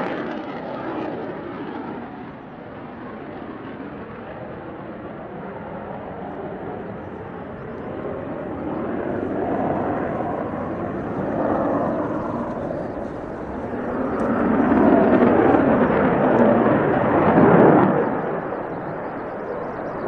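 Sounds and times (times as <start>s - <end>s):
jet engine roar overhead: 0.0s - 20.0s.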